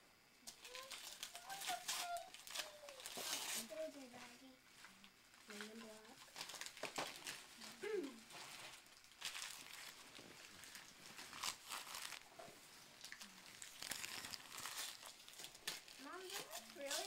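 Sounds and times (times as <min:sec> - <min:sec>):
wrapping paper crinkling: 0:00.5 - 0:17.0.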